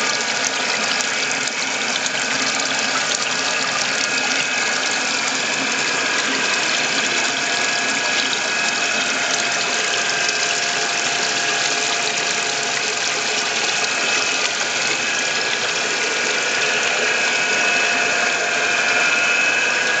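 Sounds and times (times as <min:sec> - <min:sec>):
underwater mechanical hum: 0:00.0 - 0:20.0.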